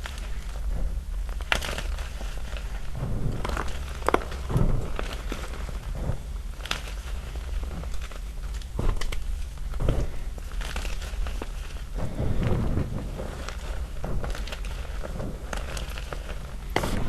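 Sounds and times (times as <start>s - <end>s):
chalk snapping and crackling: 0.0s - 17.0s.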